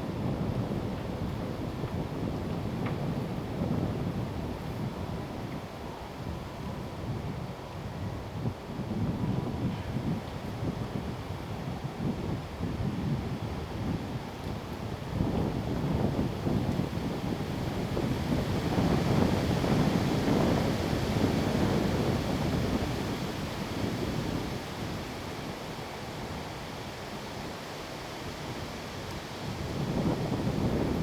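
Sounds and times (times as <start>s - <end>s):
wind buffeting microphone: 0.0s - 26.5s, 29.4s - 31.0s.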